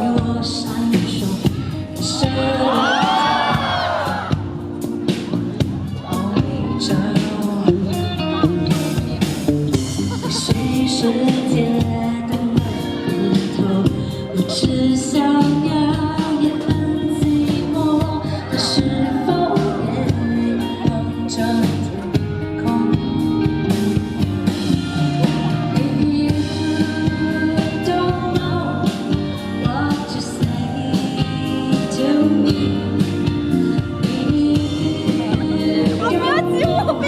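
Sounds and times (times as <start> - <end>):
live pop band: 0.0 - 37.0
person singing: 0.0 - 37.0.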